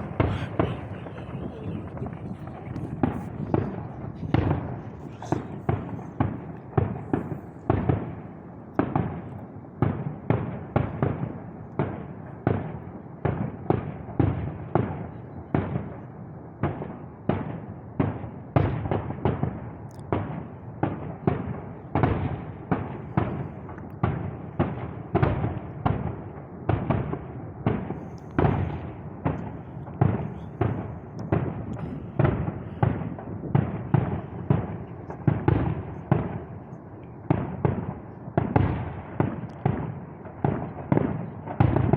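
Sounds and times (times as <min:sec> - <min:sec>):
fireworks bangs with echo: 0:00.0 - 0:41.9.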